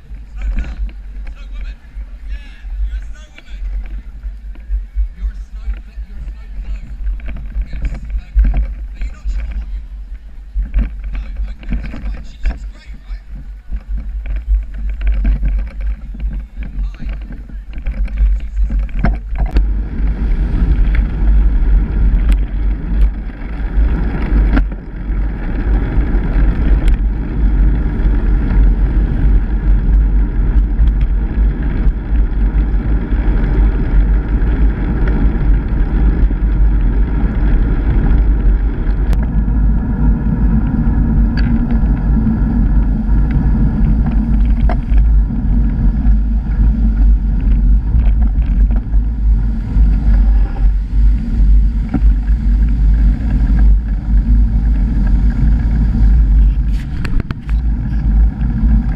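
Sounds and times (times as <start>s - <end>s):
wind and road rumble: 0.0s - 58.9s.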